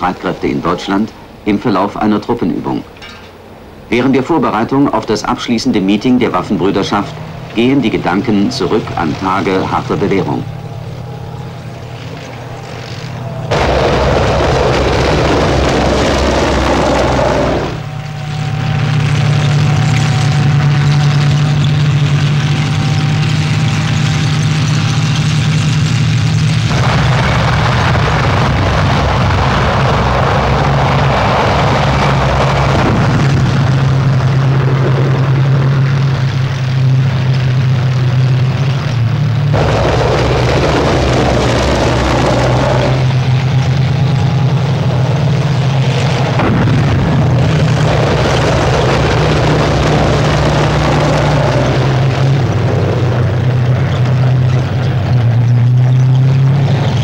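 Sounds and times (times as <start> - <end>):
tank engines and tracks rumbling: 0.0 - 57.0.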